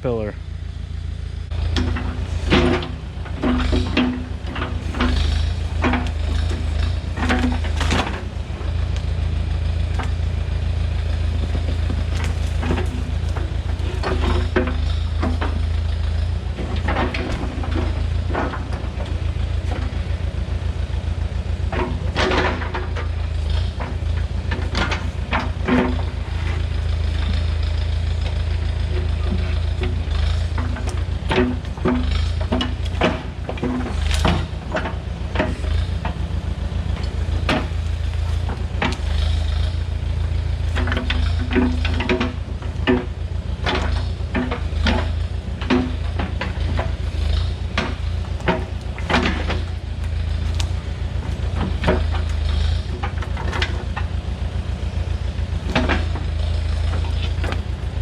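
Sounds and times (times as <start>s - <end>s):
tractor engine running: 0.0s - 58.0s
clanks and knocks: 1.5s - 9.1s, 9.8s - 20.2s, 21.6s - 58.0s.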